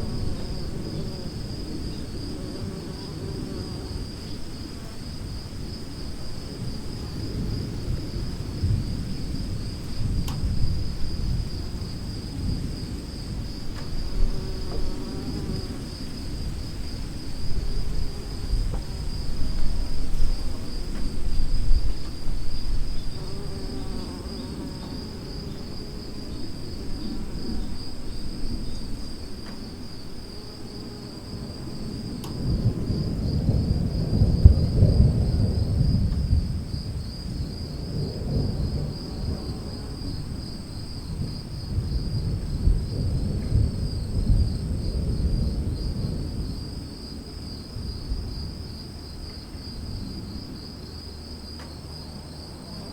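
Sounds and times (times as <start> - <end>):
crickets chirping: 0.0 - 52.9
rolling thunder rumbles: 0.0 - 52.9.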